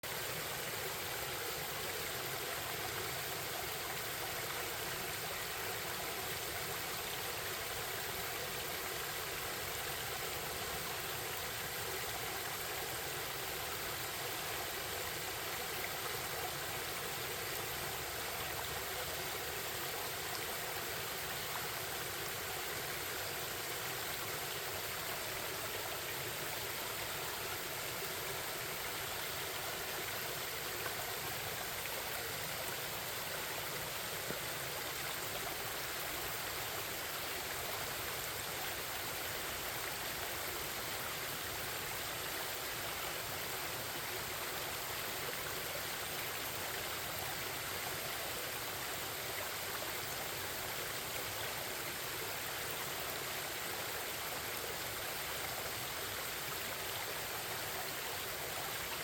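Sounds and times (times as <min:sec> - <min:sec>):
forest stream babbling: 0:00.0 - 0:59.0.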